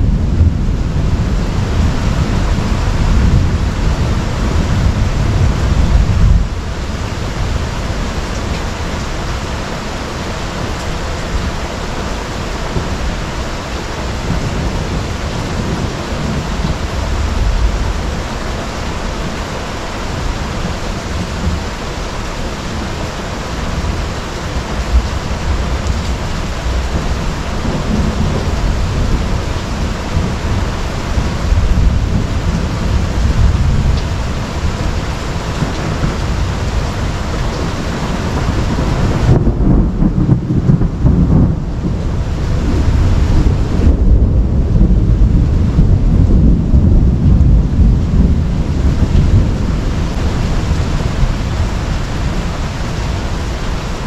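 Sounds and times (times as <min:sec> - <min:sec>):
deep rumble of thunder: 0:00.0 - 0:54.0
heavy rain pouring: 0:00.0 - 0:54.0.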